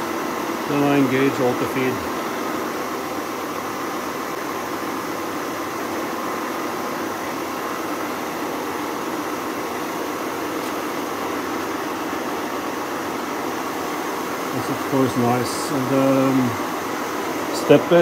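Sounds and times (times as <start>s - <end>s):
milling machine running: 0.0s - 18.0s.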